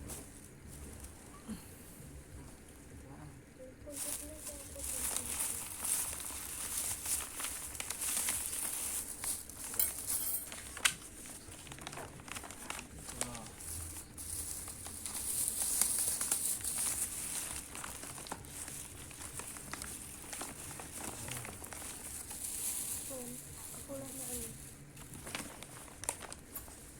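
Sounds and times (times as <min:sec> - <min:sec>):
food wrappers crinkling: 0:03.9 - 0:26.9.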